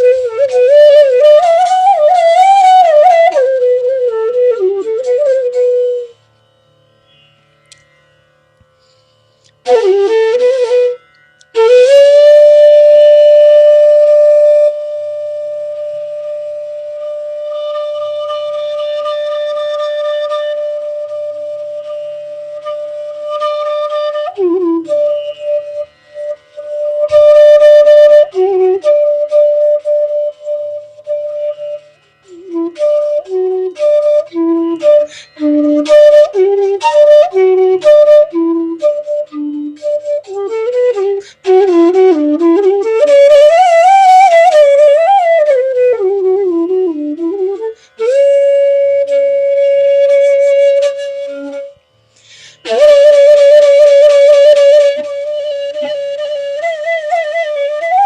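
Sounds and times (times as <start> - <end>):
bamboo flute melody: 0.0 - 7.9, 8.8 - 58.0.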